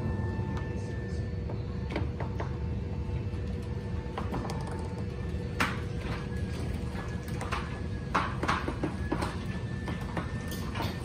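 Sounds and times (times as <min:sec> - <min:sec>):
garage door motor hum: 0:00.0 - 0:11.0.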